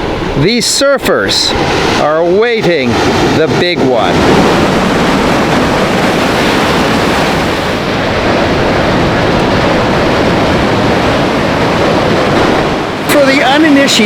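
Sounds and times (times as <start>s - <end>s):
ocean surf breaking: 0.0s - 14.0s
wind on microphone: 0.0s - 14.0s.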